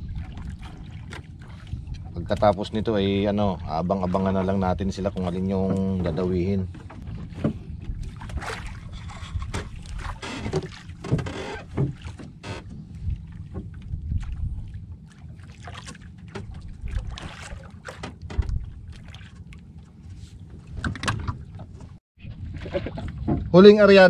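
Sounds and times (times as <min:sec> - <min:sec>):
boat low rumble: 0:00.0 - 0:24.0
knocks and clicks against hull: 0:00.1 - 0:14.5, 0:15.1 - 0:23.8.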